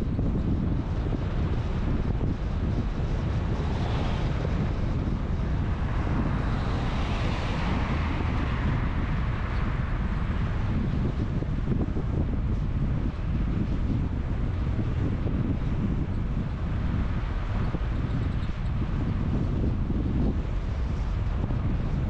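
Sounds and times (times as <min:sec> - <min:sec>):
moving vehicle noise: 0:00.0 - 0:22.0
wind buffeting microphone: 0:00.0 - 0:22.0.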